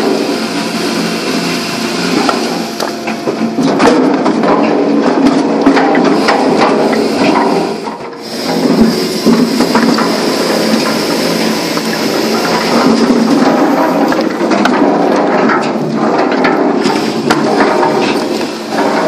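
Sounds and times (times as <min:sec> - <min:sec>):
logs clattering in rotating drum: 0:00.0 - 0:19.0
steady machine hum: 0:00.0 - 0:19.0.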